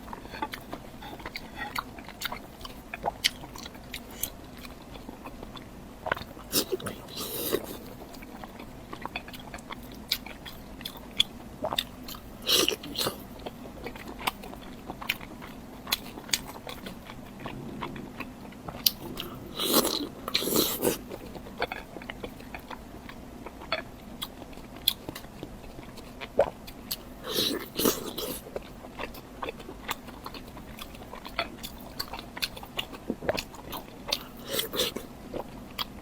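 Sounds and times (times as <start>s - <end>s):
person biting and chewing food: 0.0s - 36.0s.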